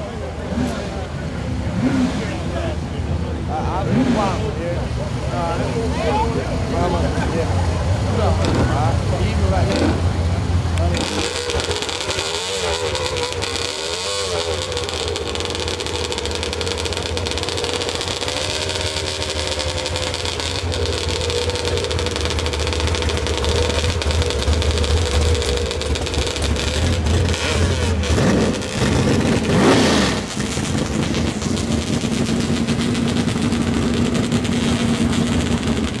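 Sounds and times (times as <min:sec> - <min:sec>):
truck engines accelerating: 0:00.0 - 0:36.0.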